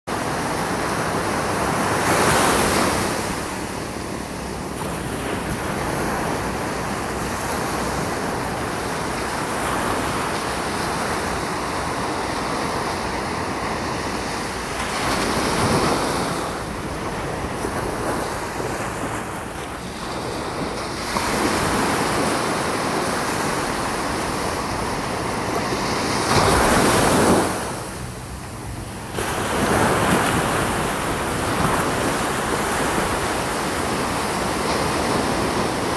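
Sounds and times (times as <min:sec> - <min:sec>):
ocean waves crashing on beach: 0:00.1 - 0:35.9.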